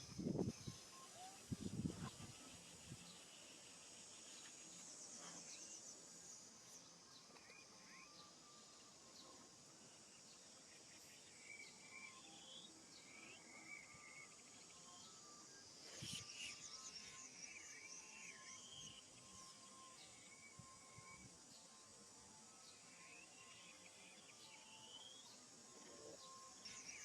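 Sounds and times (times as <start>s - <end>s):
high insect-like trill: 0.0s - 27.0s.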